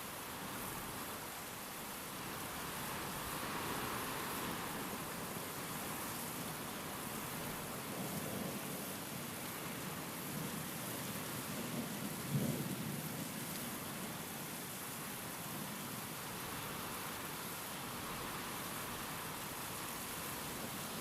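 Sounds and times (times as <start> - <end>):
steady rain: 0.0 - 21.0
wind: 0.0 - 21.0.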